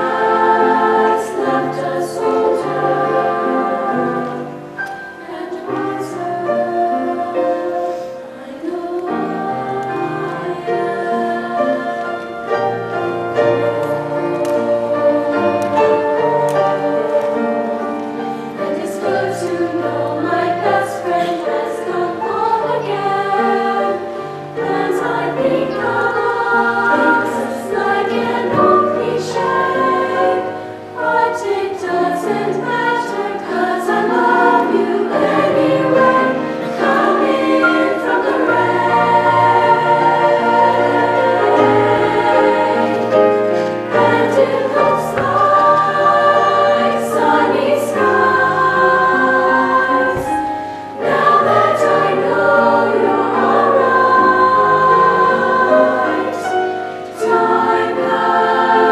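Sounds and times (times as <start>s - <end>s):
women's choir singing: 0.0s - 58.9s.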